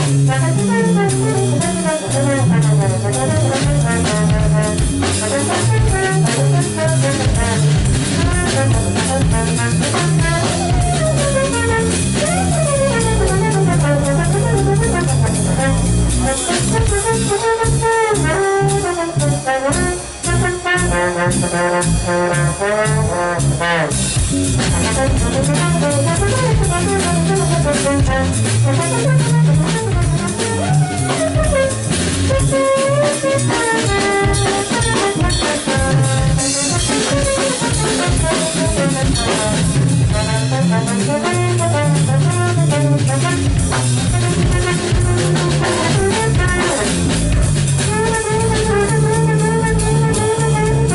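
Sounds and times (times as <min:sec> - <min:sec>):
drum kit: 0:00.0 - 0:50.9
trombone melody: 0:00.0 - 0:50.9.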